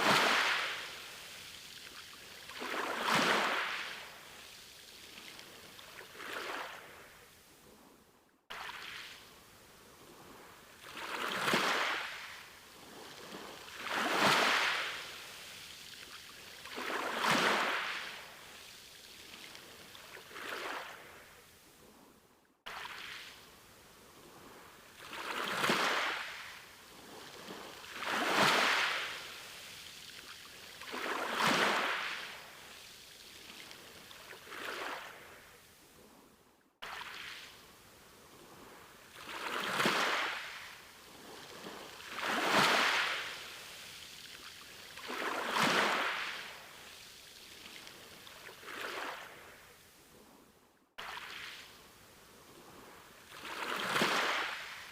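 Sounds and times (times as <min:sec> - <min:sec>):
sea waves breaking: 0:00.0 - 0:07.8, 0:08.5 - 0:22.0, 0:22.7 - 0:36.2, 0:36.8 - 0:47.0, 0:52.4 - 0:54.9.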